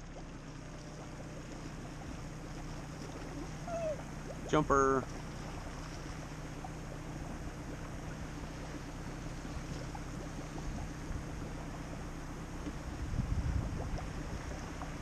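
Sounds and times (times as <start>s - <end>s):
low steady hum: 0.0s - 15.0s
wind: 0.0s - 15.0s.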